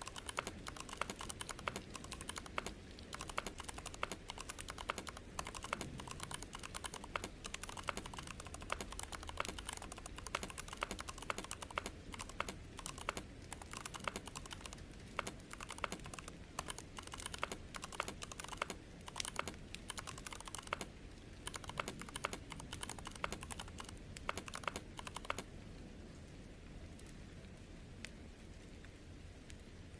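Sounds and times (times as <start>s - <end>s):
fast keyboard typing: 0.0s - 25.5s
low steady hum: 0.0s - 29.9s.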